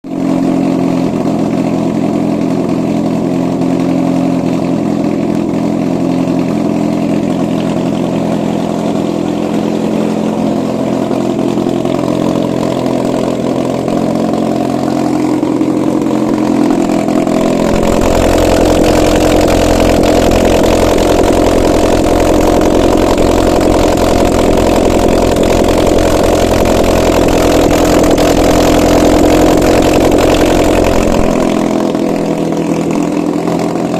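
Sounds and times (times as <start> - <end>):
petrol engine running: 0.2 - 33.9.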